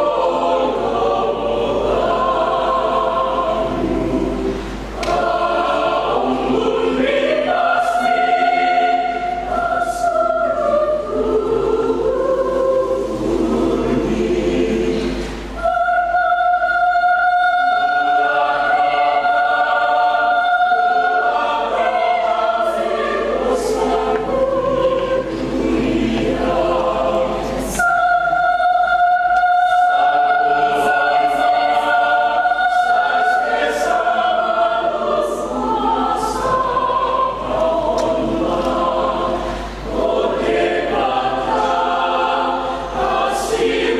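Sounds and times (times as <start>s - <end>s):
choir singing in parts: 0.0s - 43.9s.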